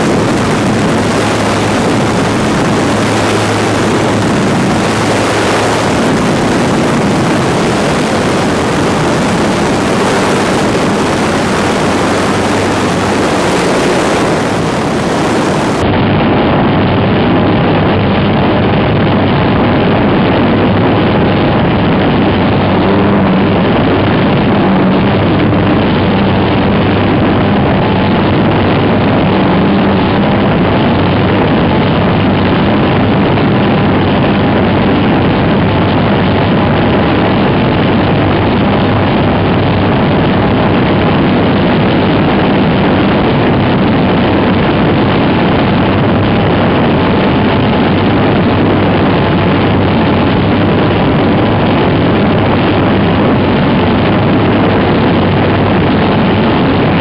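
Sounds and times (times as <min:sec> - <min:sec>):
propeller aircraft engine drone: 0:00.0 - 0:57.0
wind rush: 0:00.0 - 0:57.0.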